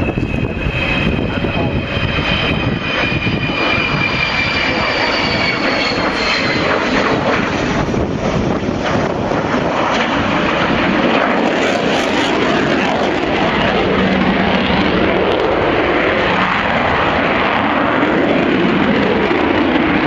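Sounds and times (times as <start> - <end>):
high jet whine: 0.0 - 20.0
jet engine roar: 0.0 - 20.0.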